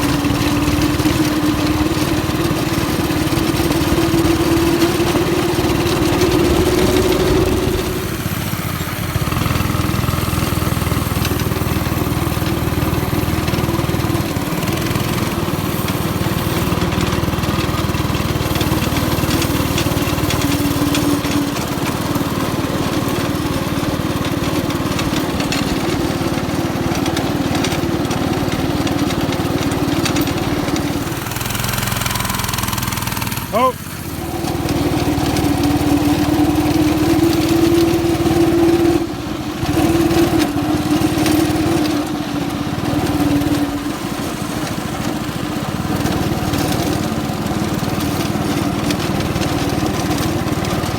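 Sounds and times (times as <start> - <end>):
go-kart engine running: 0.0 - 50.9.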